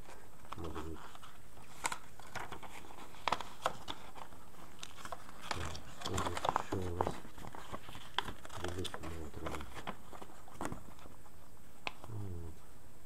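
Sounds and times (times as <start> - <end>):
paper rustling and crinkling: 0.0 - 12.1.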